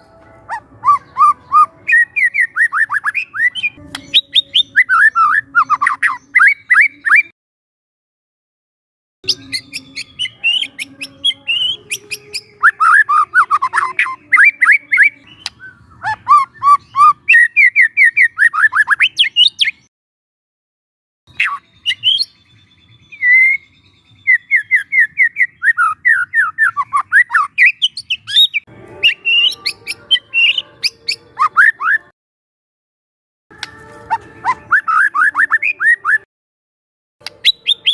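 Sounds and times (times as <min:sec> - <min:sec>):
bird singing whistled notes: 0:00.0 - 0:07.3, 0:09.2 - 0:19.9, 0:21.3 - 0:32.1, 0:33.6 - 0:36.3, 0:37.2 - 0:37.9.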